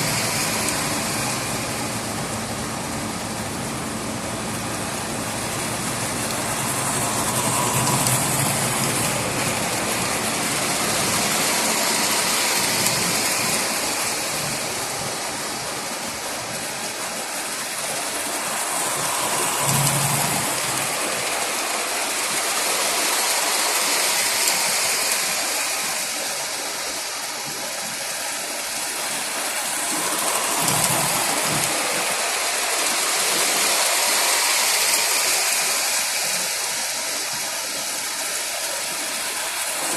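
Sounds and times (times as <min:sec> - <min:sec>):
model train rumbling on track: 0:00.0 - 0:39.9.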